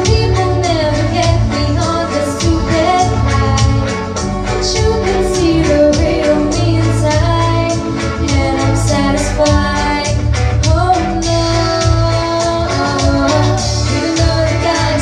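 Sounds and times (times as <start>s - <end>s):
backing music with steady beat: 0.0s - 15.0s
woman singing into microphone: 0.0s - 15.0s.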